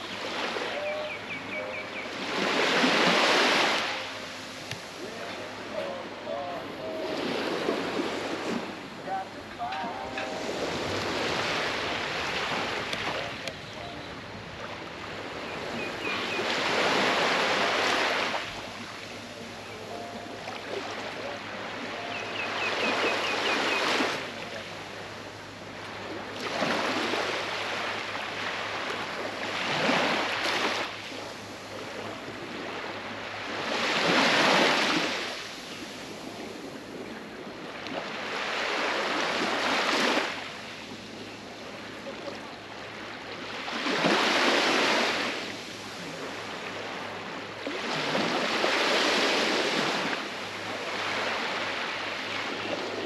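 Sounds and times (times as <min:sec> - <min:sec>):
small waves breaking on beach: 0:00.0 - 0:53.0.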